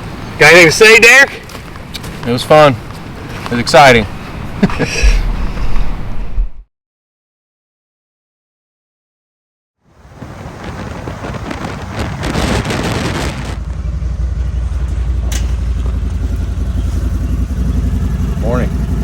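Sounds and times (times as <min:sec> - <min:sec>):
vehicle engine and road rumble: 0:00.0 - 0:06.6, 0:09.9 - 0:19.0.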